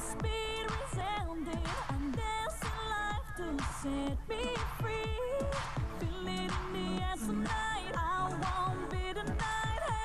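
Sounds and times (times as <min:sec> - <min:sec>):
steady kick drum beat: 0:00.0 - 0:10.0
woman singing: 0:00.0 - 0:10.0.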